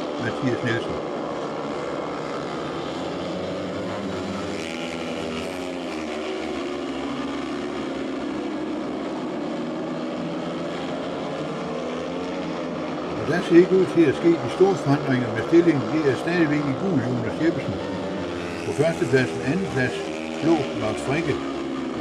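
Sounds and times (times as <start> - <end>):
motorcycles racing: 0.0 - 22.0.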